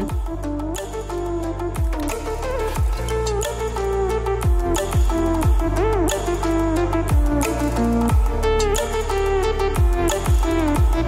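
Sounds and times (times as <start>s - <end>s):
melody with bending notes: 0.0s - 11.0s.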